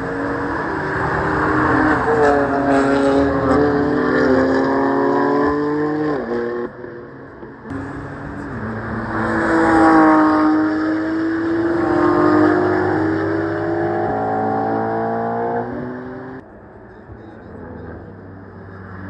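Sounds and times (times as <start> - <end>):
sports cars accelerating past: 0.0 - 16.4.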